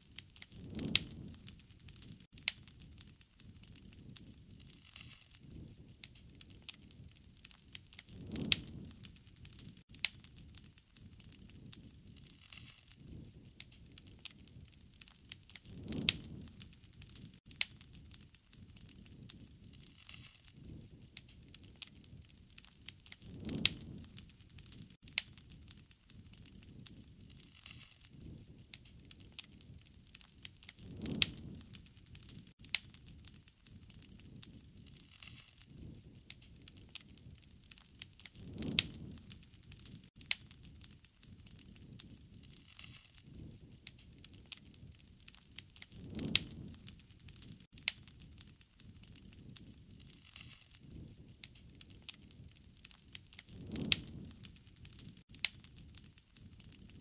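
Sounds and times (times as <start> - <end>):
whoosh of flame: 0.0 - 57.0
wood fire crackling and popping: 0.0 - 57.0.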